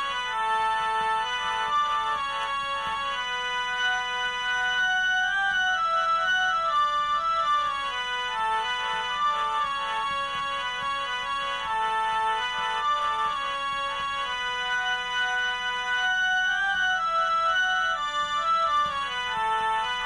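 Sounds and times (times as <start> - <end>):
organ-like ringtone melody: 0.0 - 20.0.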